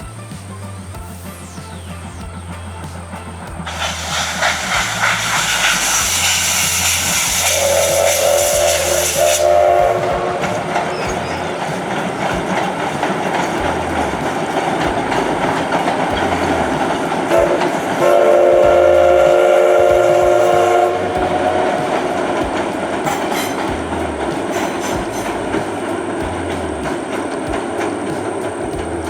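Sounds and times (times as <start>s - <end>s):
moving train rumble and clatter: 0.0s - 29.0s
steam locomotive whistle: 3.1s - 28.1s.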